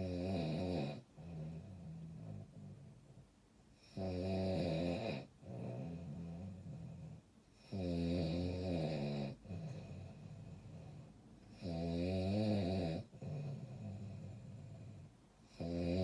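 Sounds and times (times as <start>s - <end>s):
person snoring: 0.0s - 3.0s, 3.8s - 16.0s.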